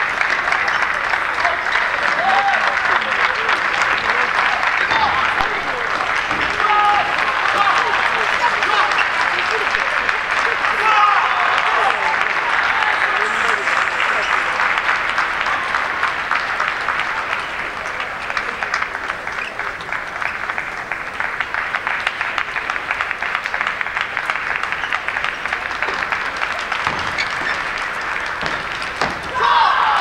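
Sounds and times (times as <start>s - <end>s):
crowd applauding: 0.0s - 30.0s.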